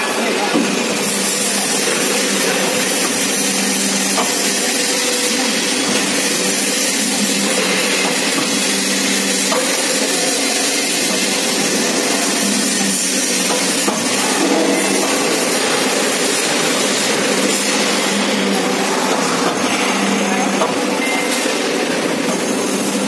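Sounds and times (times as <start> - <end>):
roof sheet machine running: 0.0 - 23.0.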